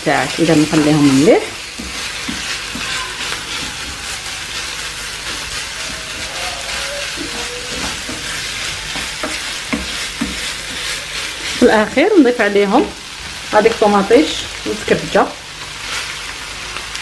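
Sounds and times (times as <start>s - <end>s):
meat sizzling in a frying pan: 0.0s - 17.0s
wooden spoon scraping a pan: 0.2s - 15.0s.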